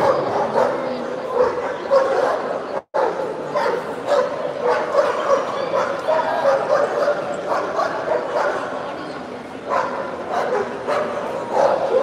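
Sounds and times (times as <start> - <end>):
dogs barking and yipping: 0.0 - 8.8, 9.7 - 12.0.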